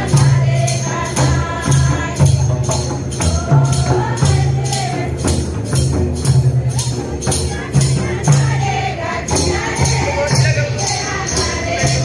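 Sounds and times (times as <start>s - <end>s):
steady percussion beat: 0.0s - 12.0s
voices singing a melody: 0.0s - 12.0s.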